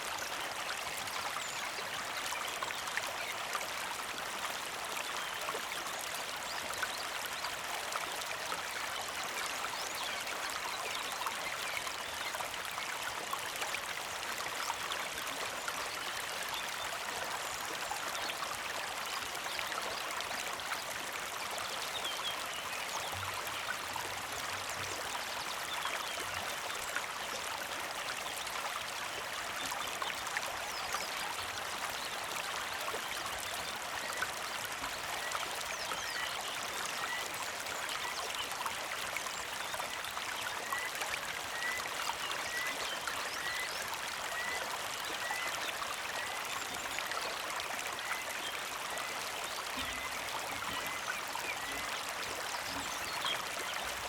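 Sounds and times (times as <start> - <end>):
creek flowing and trickling: 0.0 - 54.0.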